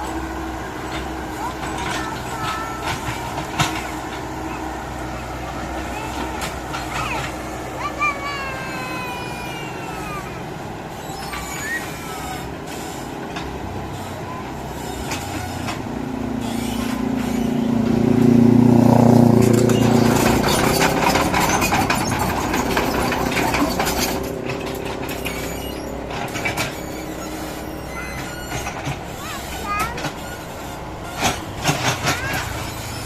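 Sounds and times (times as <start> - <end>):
rattling clatter: 0.0 - 8.4, 14.7 - 33.0
heavy diesel machinery engine: 0.0 - 33.0.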